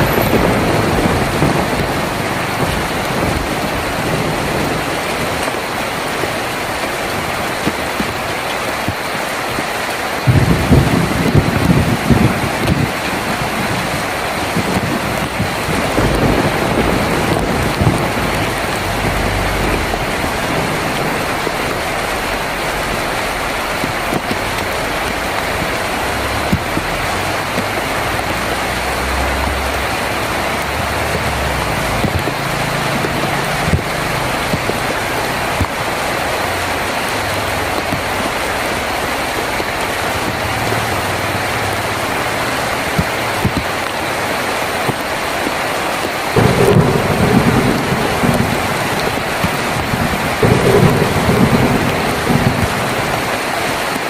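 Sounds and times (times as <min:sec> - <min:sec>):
heavy rain on a tin roof: 0:00.0 - 0:54.0
thunder rumbles: 0:00.0 - 0:54.0.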